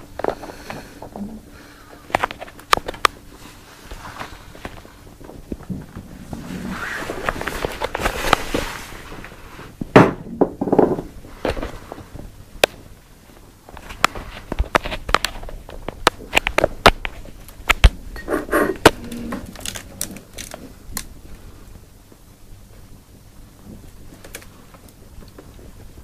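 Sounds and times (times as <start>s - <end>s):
rustling: 0.0s - 9.9s, 10.7s - 26.0s.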